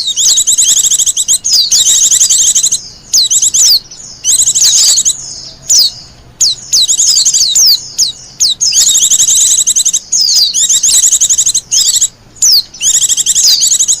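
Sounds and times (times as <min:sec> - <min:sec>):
bird twittering: 0:00.0 - 0:14.0.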